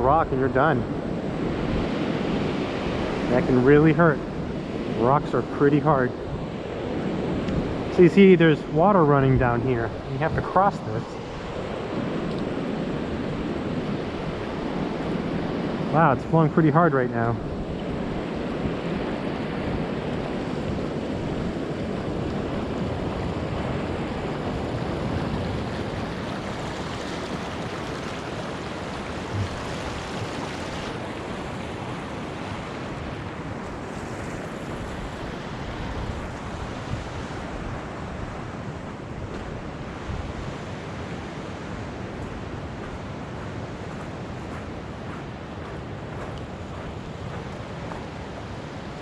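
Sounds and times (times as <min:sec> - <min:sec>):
wind on microphone: 0:00.0 - 0:16.5, 0:17.1 - 0:49.0
stream running: 0:00.0 - 0:49.0
surf roaring: 0:00.0 - 0:49.0.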